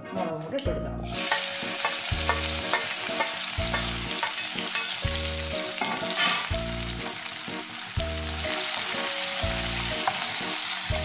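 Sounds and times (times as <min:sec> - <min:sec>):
background music: 0:00.0 - 0:11.0
shallots sizzling in hot oil: 0:01.0 - 0:11.0.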